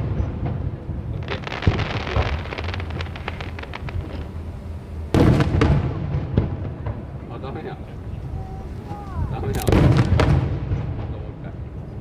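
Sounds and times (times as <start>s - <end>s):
firework shell boom: 0.0s - 7.7s, 9.2s - 11.2s
fireworks crackling: 0.0s - 12.0s.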